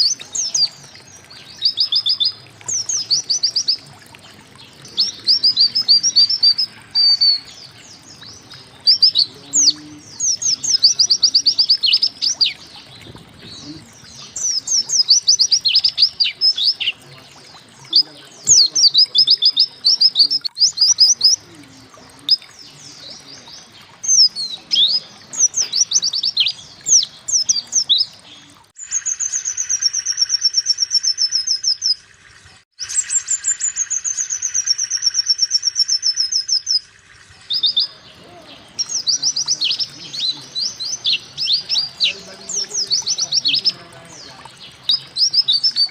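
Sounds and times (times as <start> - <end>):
high bird chirps: 0.0 - 32.0, 32.8 - 45.9
bird trills: 0.0 - 32.1, 32.8 - 45.9.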